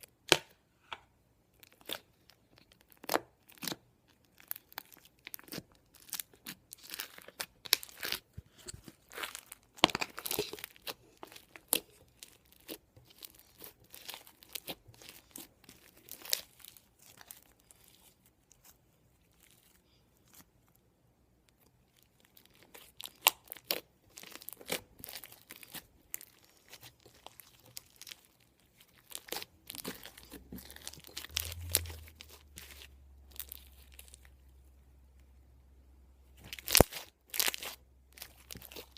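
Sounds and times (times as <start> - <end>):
slime popping and crackling: 1.6 - 19.6, 21.9 - 34.4, 36.4 - 38.9.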